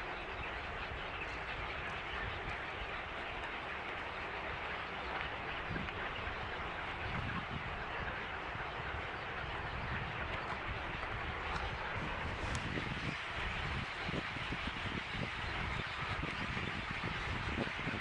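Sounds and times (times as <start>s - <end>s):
many birds calling: 0.0s - 18.0s.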